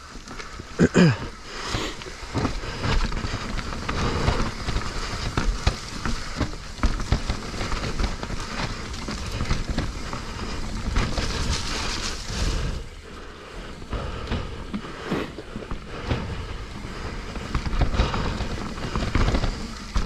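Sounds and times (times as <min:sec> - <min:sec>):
bike knocking and rattling: 0:00.0 - 0:20.0
tyres crunching over dirt and rocks: 0:00.0 - 0:20.0.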